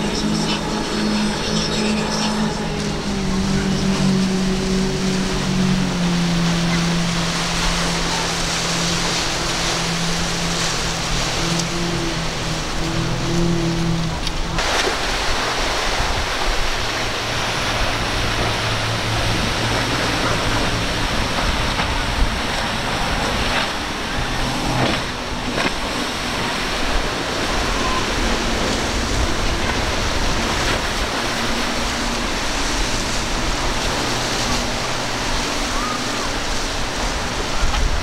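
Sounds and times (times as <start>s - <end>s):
breaking surf and wake spray: 0.0s - 38.0s
outboard engines droning: 0.0s - 38.0s.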